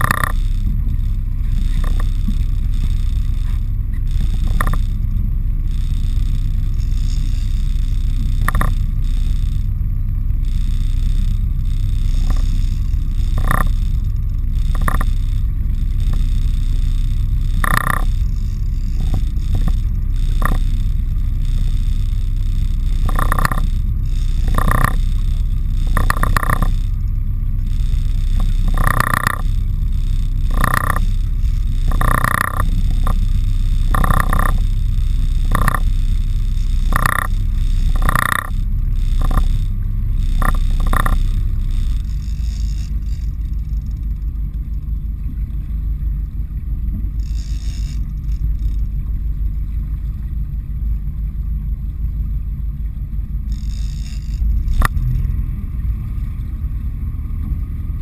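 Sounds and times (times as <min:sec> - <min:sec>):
fishing reel rasping: 0:00.0 - 0:45.0, 0:47.0 - 0:49.5, 0:53.4 - 0:55.1
steady low rumble: 0:00.0 - 0:58.0.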